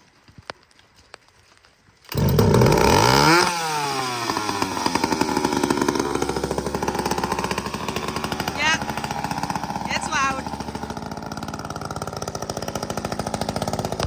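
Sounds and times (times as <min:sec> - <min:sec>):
chainsaw revving and idling: 0:02.1 - 0:14.0.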